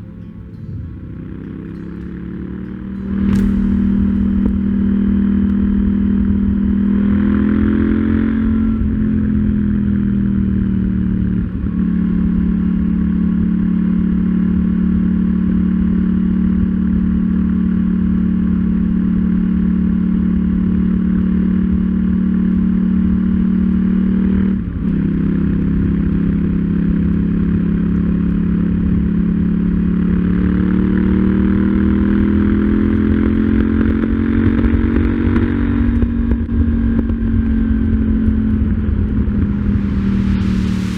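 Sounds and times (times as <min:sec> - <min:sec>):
motorcycle engine cruising: 0:00.0 - 0:15.3, 0:23.3 - 0:40.9.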